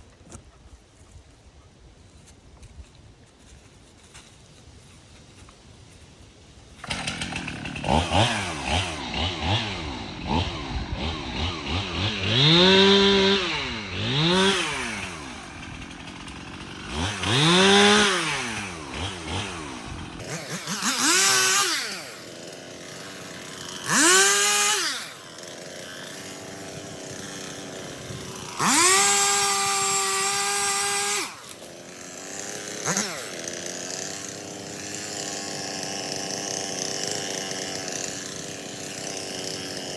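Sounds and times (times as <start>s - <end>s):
chainsaw revving: 6.8s - 39.9s.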